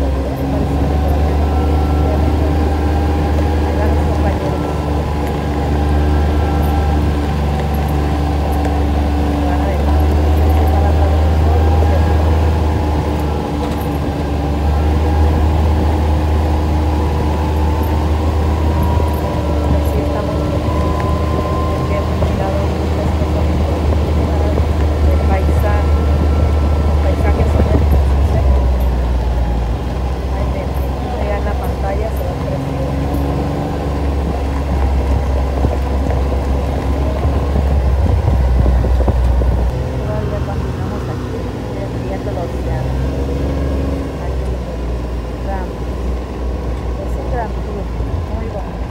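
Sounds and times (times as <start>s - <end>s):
tyres rumbling on gravel: 0.0s - 48.9s
vehicle engine droning: 0.0s - 48.9s.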